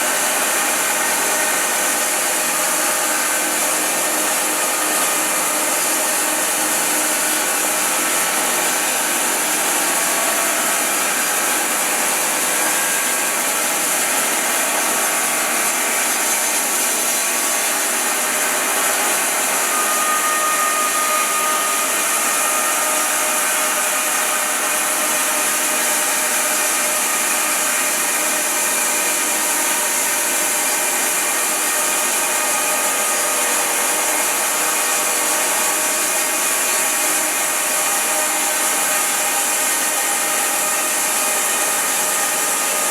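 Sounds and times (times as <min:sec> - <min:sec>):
bandsaw mill sawing wood: 0:00.0 - 0:42.9.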